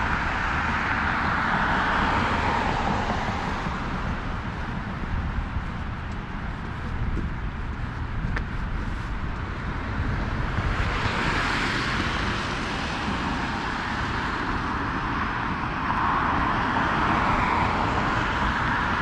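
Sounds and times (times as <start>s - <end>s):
street traffic passing: 0.0s - 19.0s.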